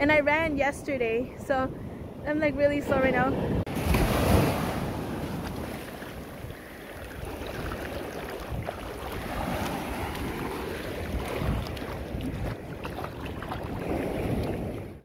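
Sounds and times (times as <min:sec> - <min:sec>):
wind rumbling on microphone: 0:00.0 - 0:15.0
small waves washing on sand: 0:02.8 - 0:15.0.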